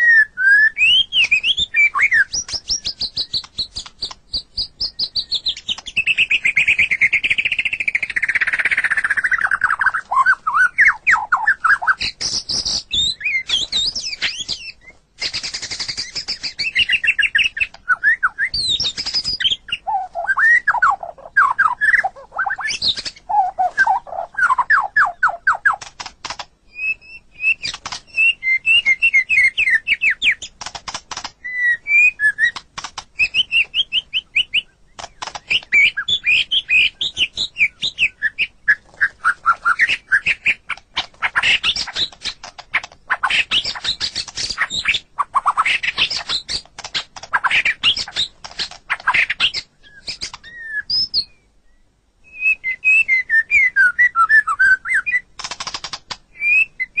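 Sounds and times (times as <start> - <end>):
songbird singing varied song: 0.0 - 57.0.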